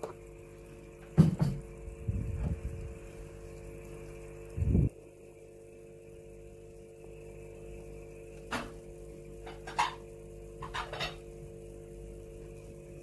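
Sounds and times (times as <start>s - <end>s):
aquarium equipment hum: 0.0s - 13.0s.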